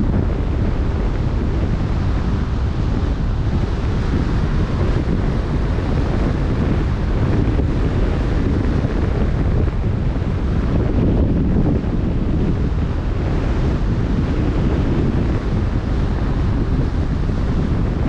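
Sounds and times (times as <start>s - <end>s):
choppy sea water: 0.0s - 18.0s
wind blowing across microphone: 0.0s - 18.0s.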